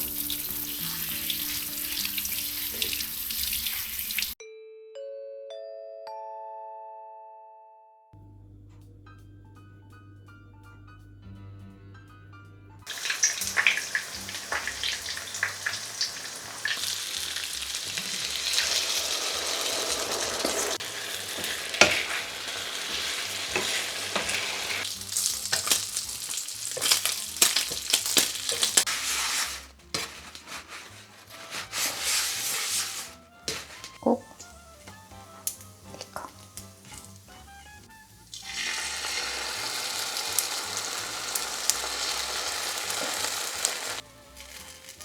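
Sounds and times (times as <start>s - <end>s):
food sizzling in a hot pan: 0.0s - 4.4s, 12.9s - 45.0s.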